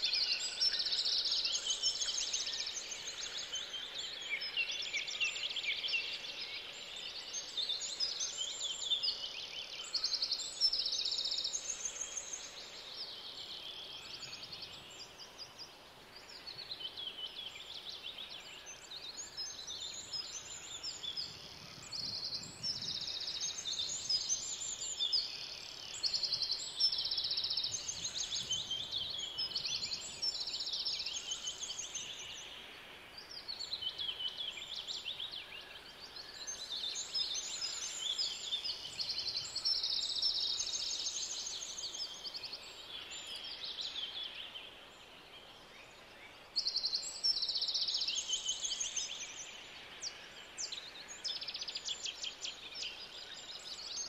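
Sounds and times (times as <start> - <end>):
faint outdoor background: 0.0 - 54.0.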